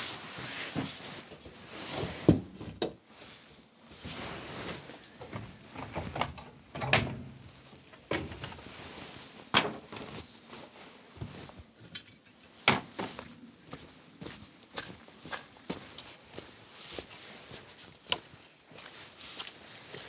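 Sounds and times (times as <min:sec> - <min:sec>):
handling and scuffing sounds: 0:00.0 - 0:05.9, 0:07.4 - 0:20.0.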